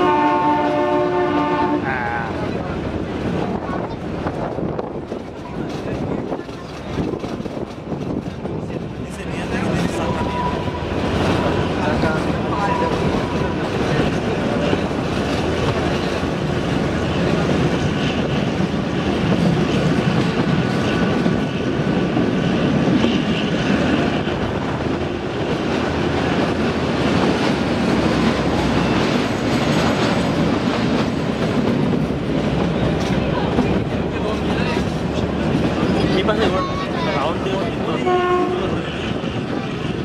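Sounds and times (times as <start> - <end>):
train wheels rumbling and rattling: 0.0 - 40.0.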